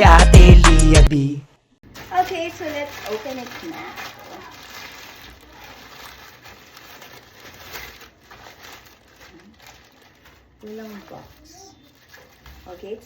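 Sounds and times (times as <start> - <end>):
plastic packaging tearing and crinkling: 1.8 - 13.0.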